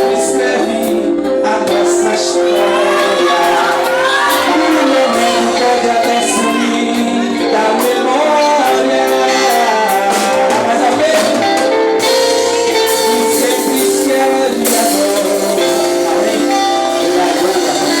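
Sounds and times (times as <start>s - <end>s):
instrumental accompaniment: 0.0s - 18.0s
person singing worship song: 0.0s - 18.0s.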